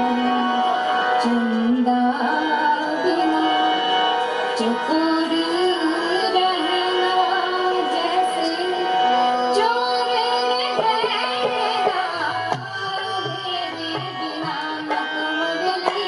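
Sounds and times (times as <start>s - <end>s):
droning instrumental accompaniment: 0.0s - 16.0s
woman singing into microphone: 0.0s - 16.0s.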